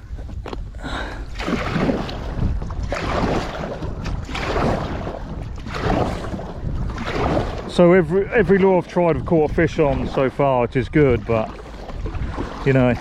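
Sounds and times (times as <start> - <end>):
water lapping against kayak hull: 0.0 - 13.0
wind rumble on microphone: 0.0 - 13.0.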